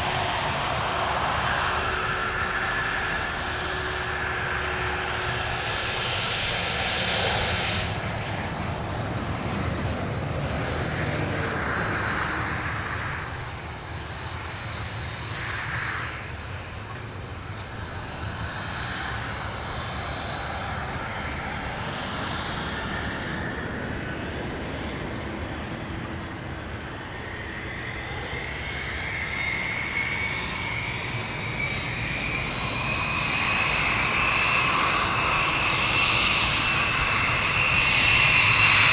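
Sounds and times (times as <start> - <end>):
aircraft engines rumbling: 0.0 - 38.9
engine whine rising in pitch: 0.0 - 38.9.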